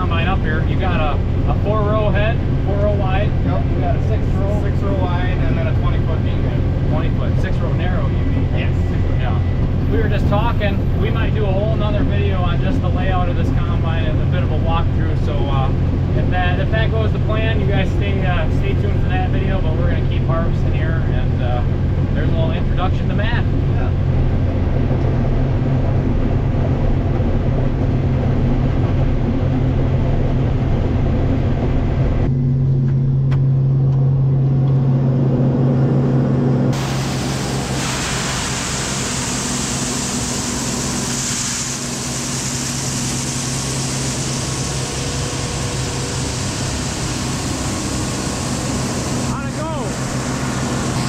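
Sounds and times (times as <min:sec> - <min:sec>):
broad rushing noise: 0:00.0 - 0:32.4, 0:34.9 - 0:51.0
harvesting machinery engine hum: 0:00.0 - 0:51.0.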